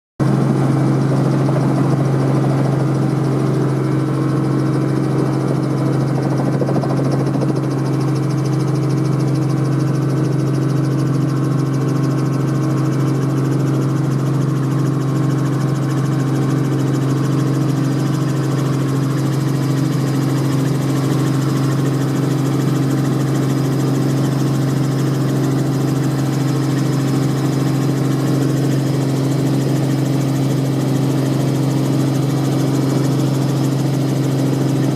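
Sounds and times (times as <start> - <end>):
helicopter engine and rotors drone: 0.2 - 34.9.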